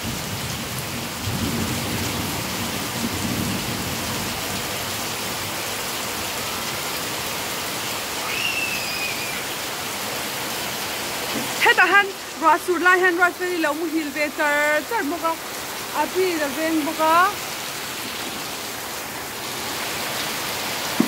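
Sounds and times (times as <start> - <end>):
heavy rain on pavement: 0.0 - 21.0.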